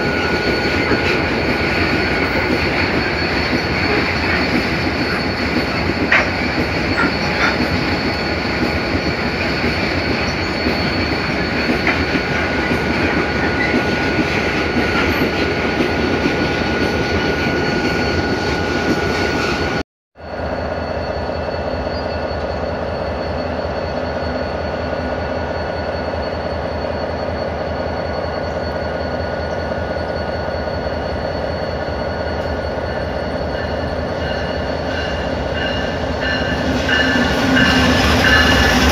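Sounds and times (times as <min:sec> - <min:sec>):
freight wagons squealing and clattering: 0:00.0 - 0:19.7, 0:21.2 - 0:38.9
diesel locomotive engine hum: 0:00.0 - 0:38.9.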